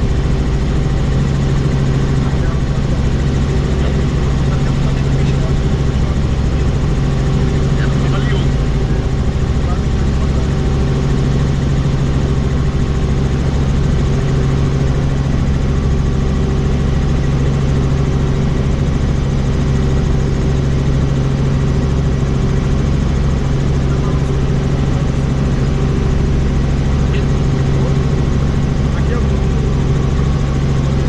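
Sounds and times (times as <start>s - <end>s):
helicopter rotor and engine drone: 0.0s - 31.0s.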